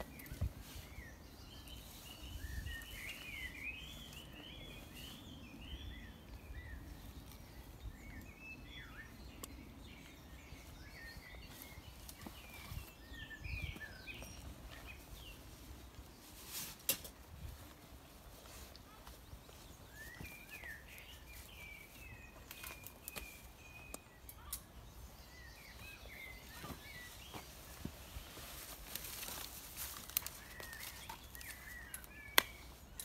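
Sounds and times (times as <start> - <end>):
small birds twittering: 0.0 - 33.0.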